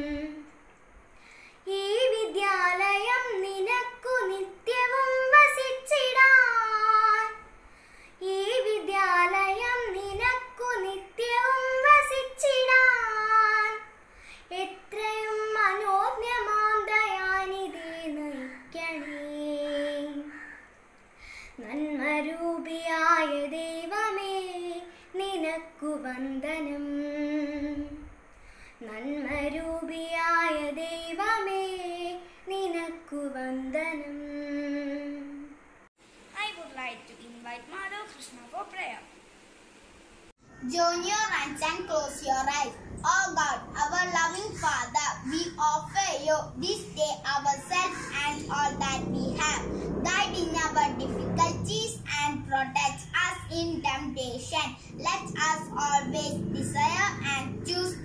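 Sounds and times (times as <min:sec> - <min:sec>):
girl singing unaccompanied: 0:00.0 - 0:35.6, 0:40.4 - 0:58.0.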